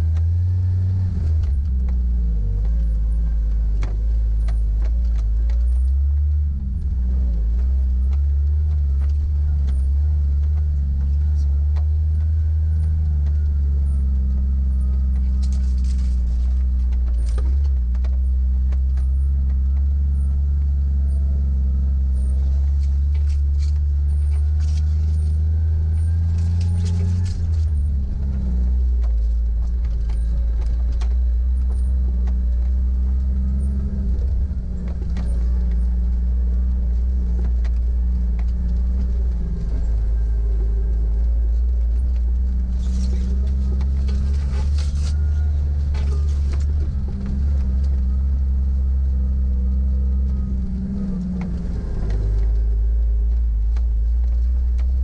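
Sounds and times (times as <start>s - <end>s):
car engine hum: 0.0s - 55.0s
clicks and rattles over bumps: 0.0s - 55.0s.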